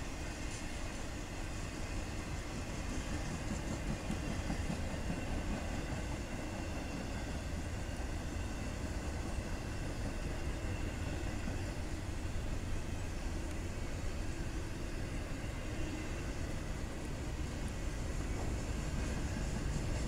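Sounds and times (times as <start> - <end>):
steel wheels on rail: 0.0 - 20.0.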